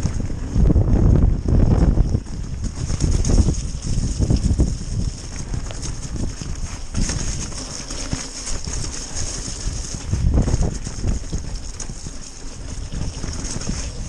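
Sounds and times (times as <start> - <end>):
bike chain and frame clattering: 2.2 - 14.0.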